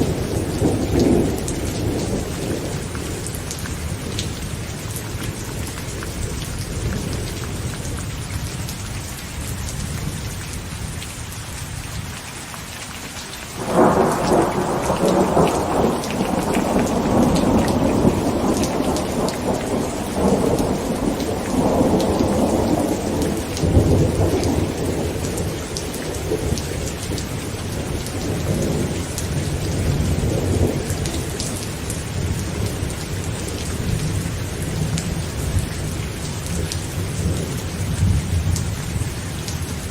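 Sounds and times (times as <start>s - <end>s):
rolling thunder: 0.0s - 7.4s, 13.6s - 39.9s
heavy rain on a tent: 0.0s - 39.9s.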